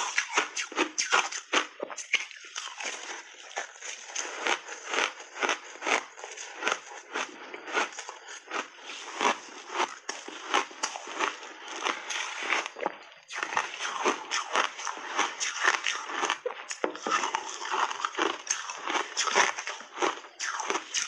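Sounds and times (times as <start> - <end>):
crunching and chewing ice: 0.0 - 21.0.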